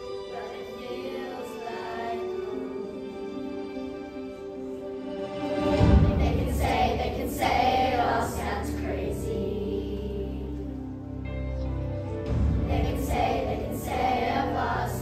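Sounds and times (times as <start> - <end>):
children's choir singing: 0.0 - 11.0, 12.6 - 15.0
instrumental accompaniment: 0.0 - 15.0.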